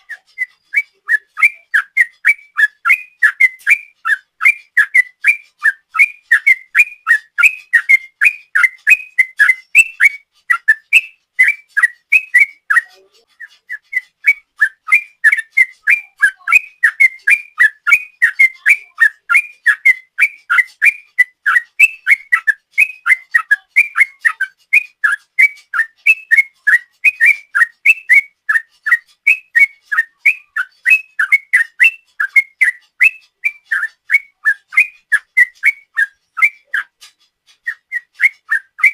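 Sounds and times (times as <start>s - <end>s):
bird singing rapid whistled notes: 0.0s - 38.9s.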